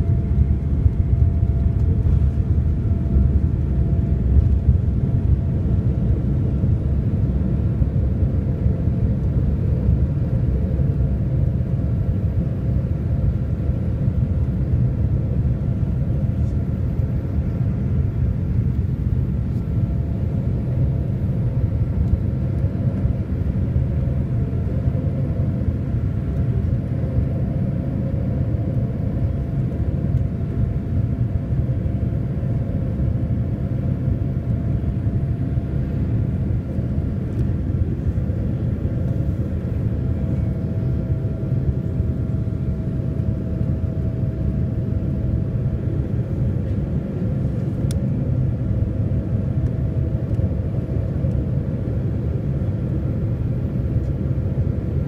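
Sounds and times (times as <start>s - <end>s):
faint steady whine: 0.0s - 55.0s
jet engines rumbling: 0.0s - 55.0s.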